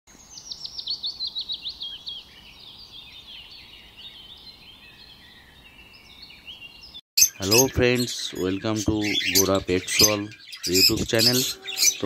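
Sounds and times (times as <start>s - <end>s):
songbird singing: 0.1s - 12.0s.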